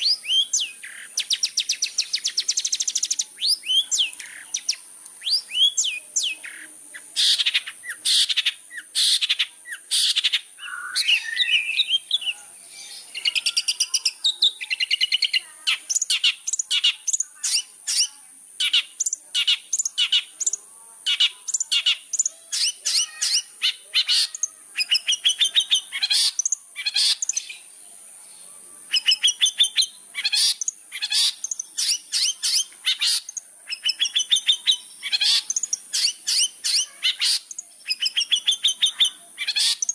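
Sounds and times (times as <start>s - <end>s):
shrike singing sharp chattering song: 0.0s - 28.1s, 28.8s - 39.9s.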